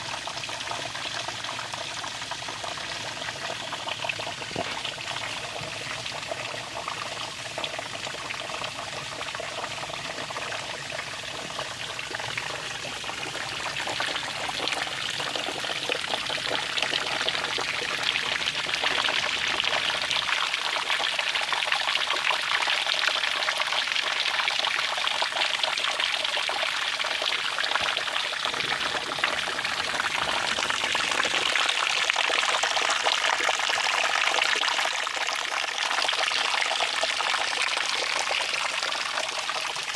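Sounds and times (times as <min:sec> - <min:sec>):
water running and splashing: 0:00.0 - 0:23.8, 0:26.2 - 0:34.6.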